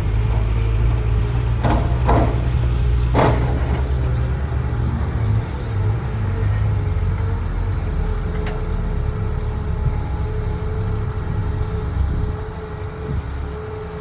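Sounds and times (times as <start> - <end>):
diesel engine rumbling and whining: 0.0 - 14.0.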